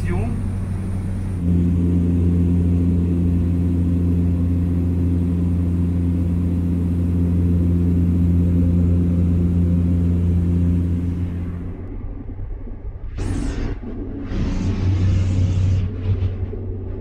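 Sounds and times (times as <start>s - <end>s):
turboprop engine drone in cabin: 0.0s - 17.0s.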